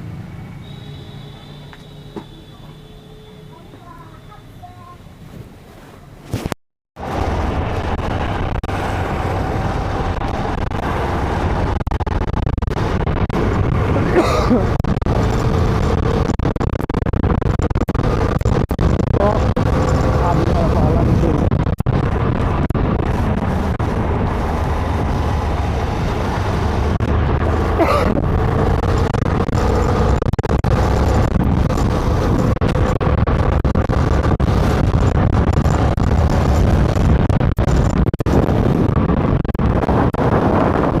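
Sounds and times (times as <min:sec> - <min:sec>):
vehicle rumbling: 0:00.0 - 0:41.0.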